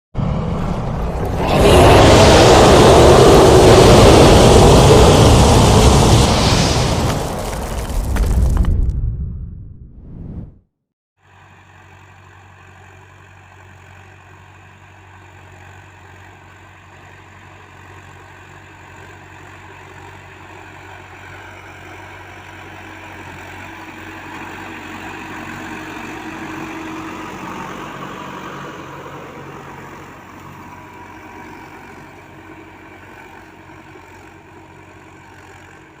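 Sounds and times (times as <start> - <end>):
tractor diesel engine running: 0.2 - 7.4, 11.3 - 36.0.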